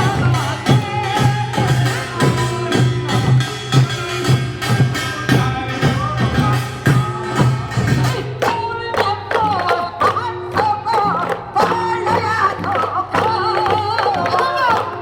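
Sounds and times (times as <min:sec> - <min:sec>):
folk singing: 0:00.0 - 0:15.0
steady drum beats: 0:00.0 - 0:15.0.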